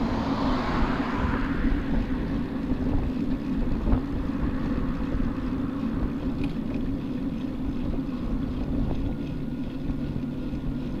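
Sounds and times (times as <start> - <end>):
low hum: 0.0 - 11.0
road rumble: 0.0 - 11.0
wind noise: 0.0 - 11.0.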